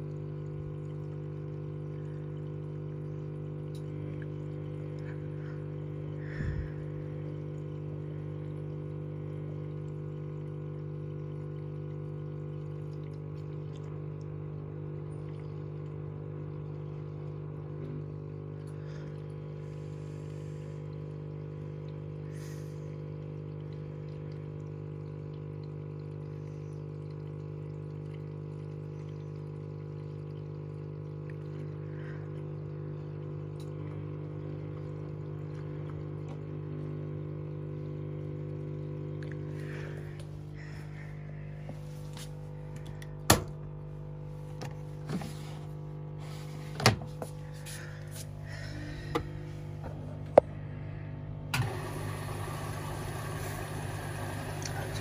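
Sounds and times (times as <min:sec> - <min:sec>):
water pouring and trickling: 0:00.0 - 0:50.1, 0:51.7 - 0:55.0
washing machine hum: 0:00.0 - 0:55.0.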